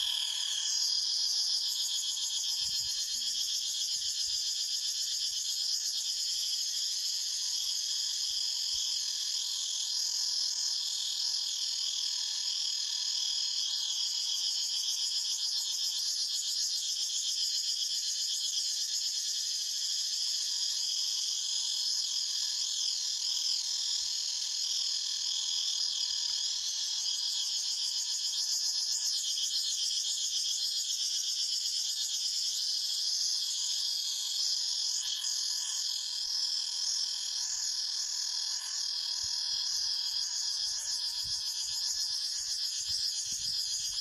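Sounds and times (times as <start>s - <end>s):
cicadas buzzing: 0.0s - 44.0s.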